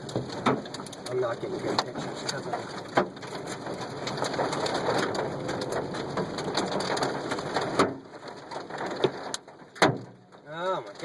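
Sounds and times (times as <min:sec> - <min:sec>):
hail pelting car roof: 0:00.0 - 0:11.0.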